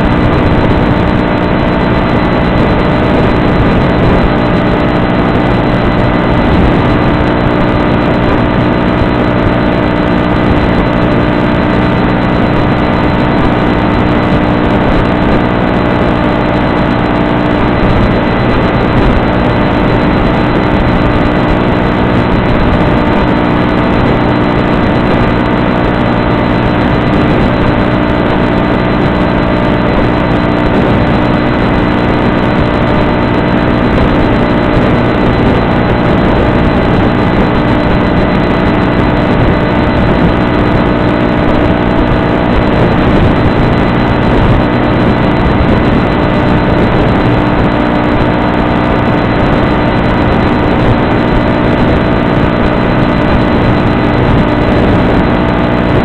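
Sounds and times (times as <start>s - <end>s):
electric motor and propeller drone: 0.0s - 56.0s
wind: 0.0s - 56.0s.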